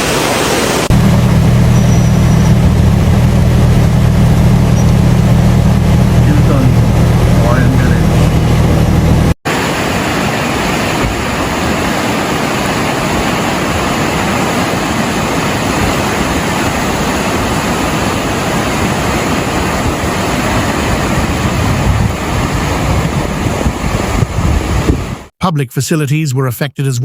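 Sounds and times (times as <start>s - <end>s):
floodwater rushing: 0.0s - 25.3s.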